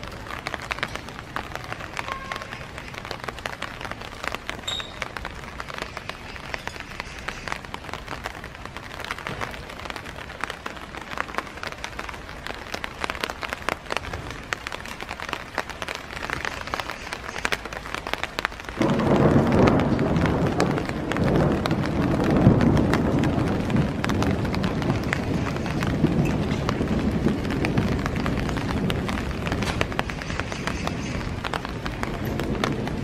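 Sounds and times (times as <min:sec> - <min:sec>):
rain drops pattering: 0:00.0 - 0:33.0.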